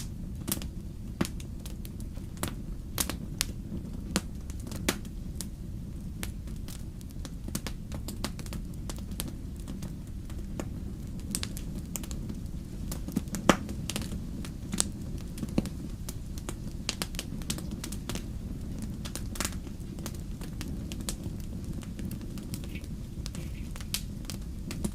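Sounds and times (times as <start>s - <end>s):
low rumble of flames: 0.0s - 24.9s
wood fire crackling: 0.0s - 24.9s.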